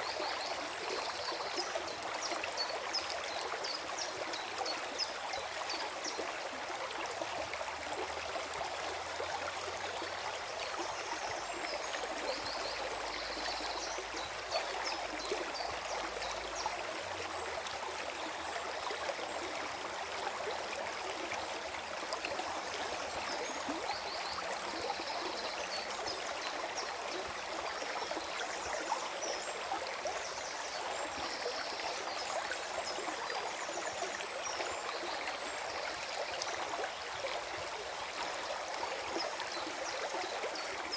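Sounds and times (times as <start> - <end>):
stream flowing and gurgling: 0.0 - 40.9.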